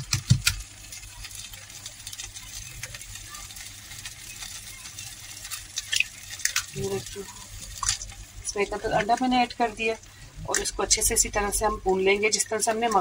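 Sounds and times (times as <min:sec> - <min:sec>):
frying sizzle with crackles: 0:00.0 - 0:13.0.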